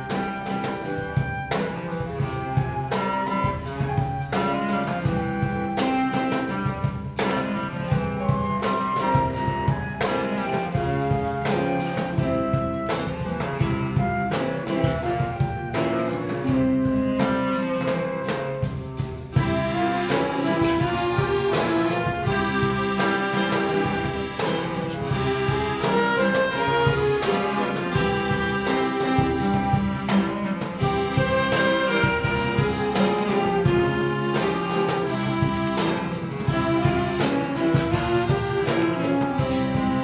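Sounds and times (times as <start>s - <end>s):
accordions: 0.0s - 40.0s
cello: 0.0s - 40.0s
flute: 0.0s - 40.0s
guitars strumming: 0.0s - 40.0s.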